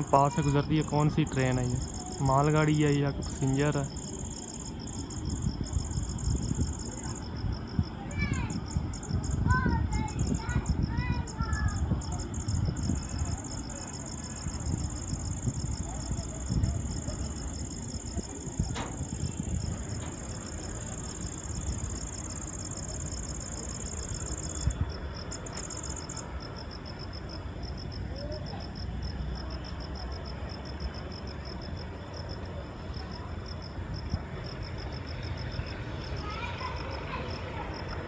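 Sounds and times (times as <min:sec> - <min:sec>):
crickets chirping: 0:00.0 - 0:38.0
crickets trilling: 0:00.0 - 0:38.0.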